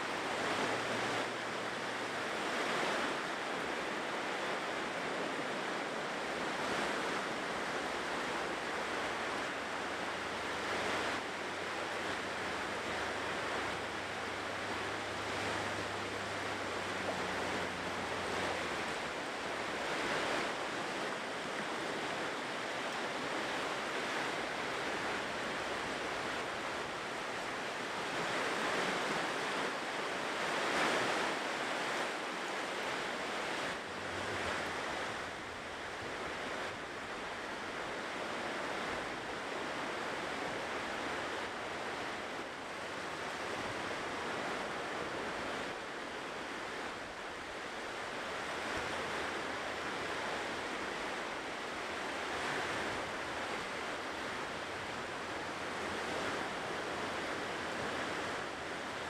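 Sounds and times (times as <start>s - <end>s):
ocean waves on shore: 0.0s - 59.0s.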